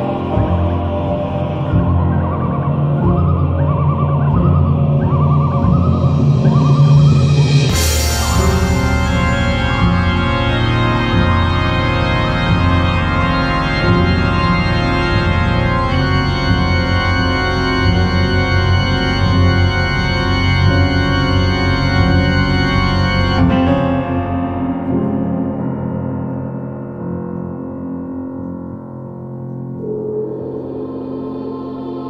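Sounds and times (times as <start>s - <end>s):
pulsing low drone: 0.0s - 25.7s, 29.8s - 32.0s
organ-like keyboard chords: 0.0s - 32.0s.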